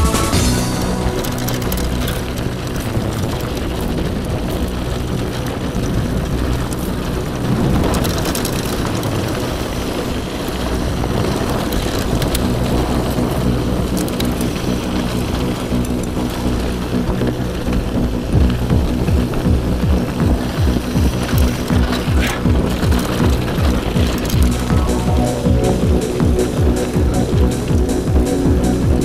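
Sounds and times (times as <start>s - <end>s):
background music: 0.0s - 29.0s
bike rattling over dirt trail: 0.0s - 29.0s
wind rushing past camera: 0.2s - 29.0s.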